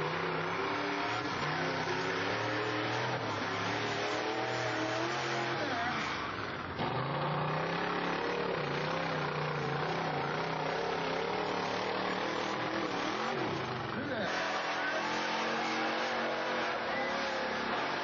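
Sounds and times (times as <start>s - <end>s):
off-road engines revving: 0.0s - 18.0s.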